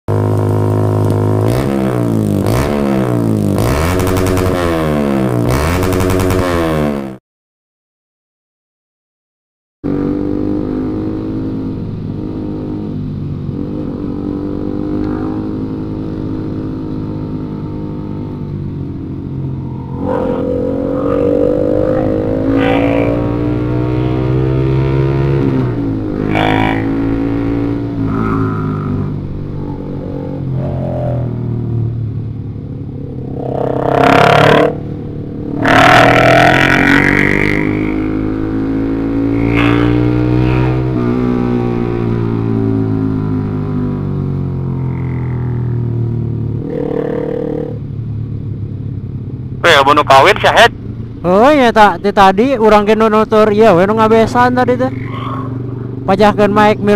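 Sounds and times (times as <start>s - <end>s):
vehicle engine accelerating: 0.1s - 7.2s, 9.9s - 56.9s.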